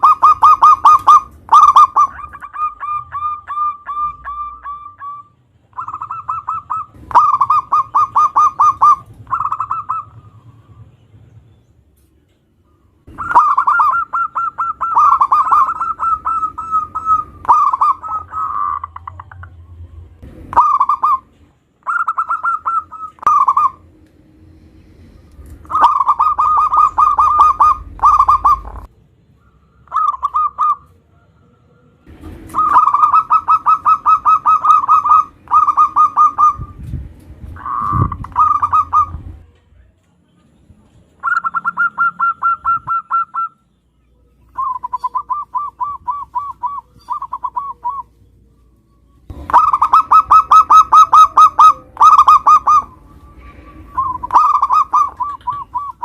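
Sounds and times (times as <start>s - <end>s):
dove cooing: 0.0s - 10.8s, 13.0s - 19.7s, 20.5s - 23.9s, 25.5s - 36.8s, 37.5s - 39.4s, 41.2s - 43.6s, 44.5s - 48.3s, 49.3s - 56.0s.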